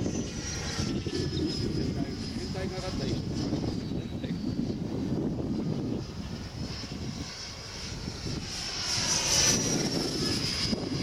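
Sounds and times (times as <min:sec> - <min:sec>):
model jet fan whining: 0:00.0 - 0:11.0.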